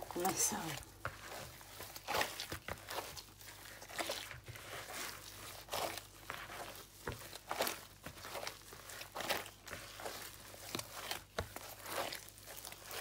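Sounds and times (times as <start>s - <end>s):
hand kneading mash in plastic bowl: 0.0s - 13.0s.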